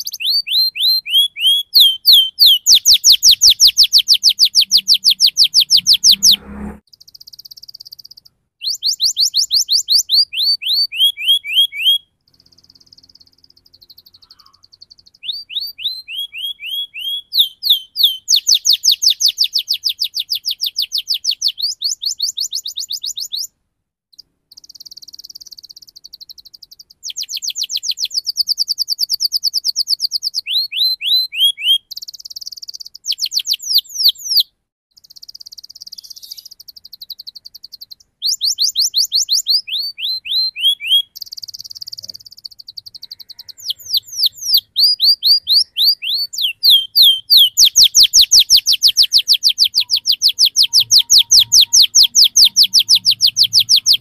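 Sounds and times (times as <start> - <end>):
canary singing: 0.0 - 23.6, 24.2 - 54.0.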